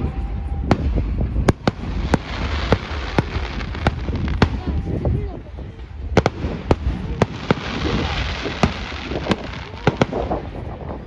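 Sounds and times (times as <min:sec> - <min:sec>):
fireworks crackling: 0:00.1 - 0:11.0
fireworks bangs: 0:00.6 - 0:05.0, 0:06.1 - 0:11.0.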